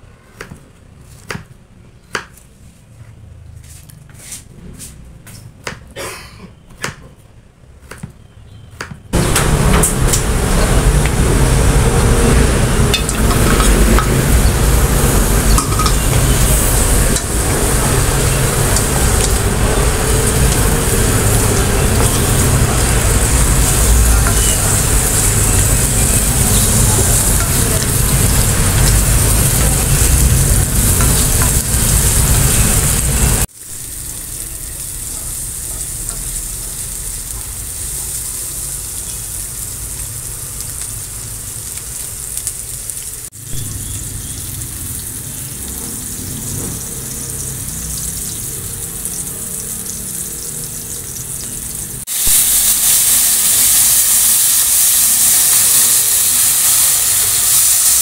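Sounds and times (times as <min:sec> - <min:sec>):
food sizzling in hot oil: 0:09.2 - 0:58.0.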